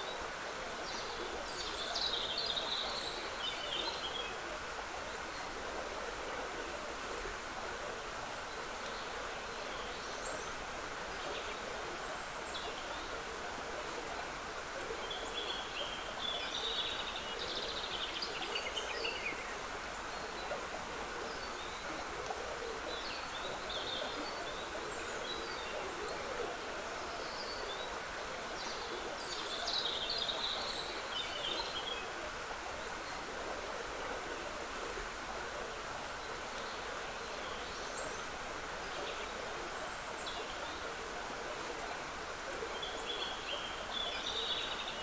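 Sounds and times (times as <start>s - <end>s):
stream of running water: 0.0s - 45.0s.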